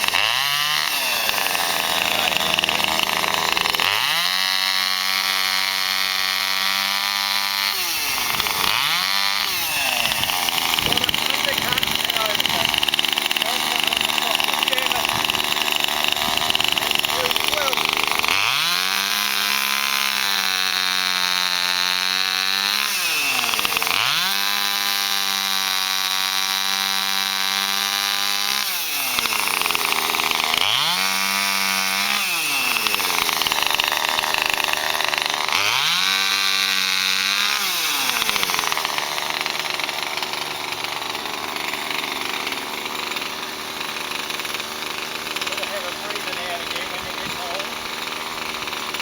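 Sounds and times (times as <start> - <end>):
chainsaw revving: 0.0 - 49.0.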